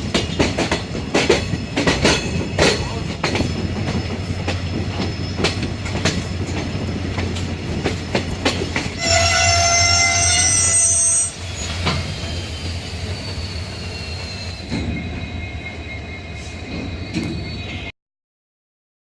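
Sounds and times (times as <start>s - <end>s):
low rumble of train coaches: 0.0s - 17.9s
train wheels squealing on rails: 0.0s - 17.9s.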